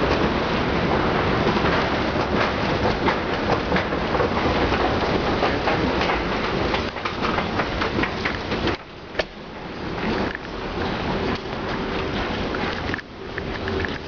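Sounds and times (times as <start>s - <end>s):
escalator steps rattling: 0.0s - 14.0s.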